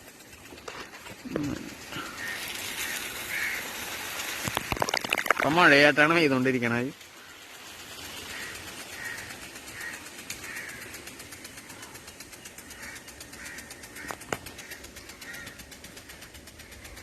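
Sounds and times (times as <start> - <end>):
rain gun sprinkler spraying: 0.0 - 17.0
sprinkler ticking: 0.0 - 17.0.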